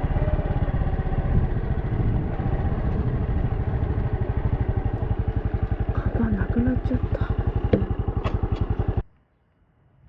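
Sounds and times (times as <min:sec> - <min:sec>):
small motorcycle engine running: 0:00.0 - 0:09.0.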